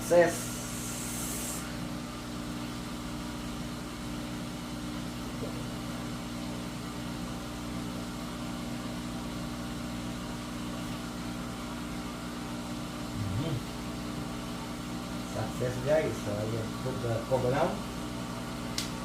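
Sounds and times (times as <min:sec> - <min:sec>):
washing machine drain pump humming: 0:00.0 - 0:19.0.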